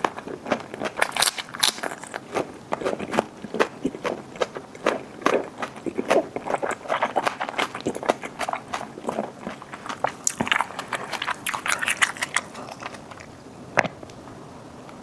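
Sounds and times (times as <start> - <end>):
person chewing wetly: 0.0 - 13.4.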